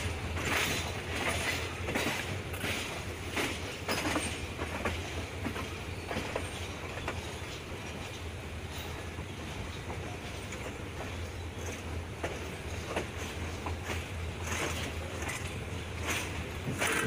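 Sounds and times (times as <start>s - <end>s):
train low rumble: 0.0s - 17.0s
train wheels clicking over rail joints: 0.0s - 17.0s.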